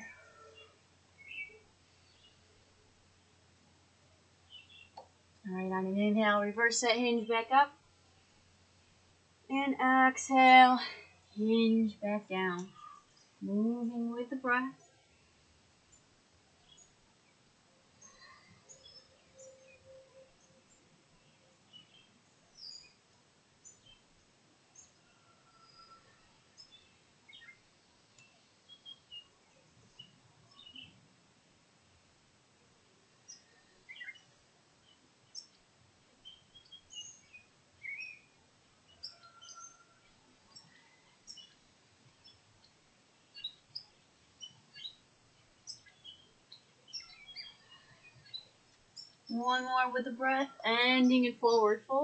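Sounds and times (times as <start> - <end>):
songbirds chirping and whistling: 0.0 - 2.6, 4.4 - 5.1, 10.2 - 23.0, 23.6 - 31.1, 33.2 - 52.0
background hiss: 0.0 - 52.0.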